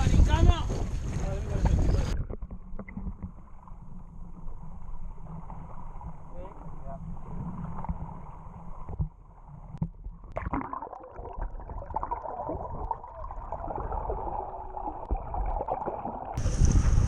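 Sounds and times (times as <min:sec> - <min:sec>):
fine underwater crackle: 0:00.0 - 0:17.0.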